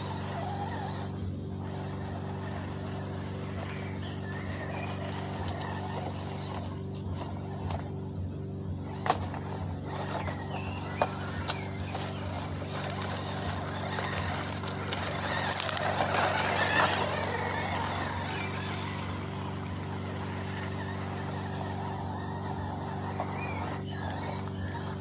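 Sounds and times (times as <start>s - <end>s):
low hum: 0.0s - 25.0s
toy car driving through gravel: 0.0s - 25.0s.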